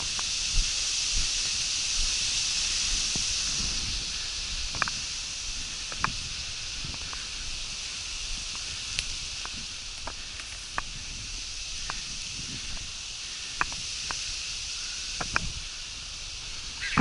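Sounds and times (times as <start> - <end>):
high-pitched rustling hiss: 0.0 - 17.0.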